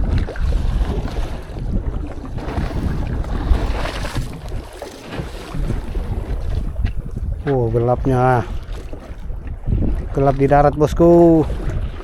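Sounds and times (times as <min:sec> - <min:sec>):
water sloshing against hull: 0:00.0 - 0:12.0
wind buffeting microphone: 0:00.0 - 0:12.0.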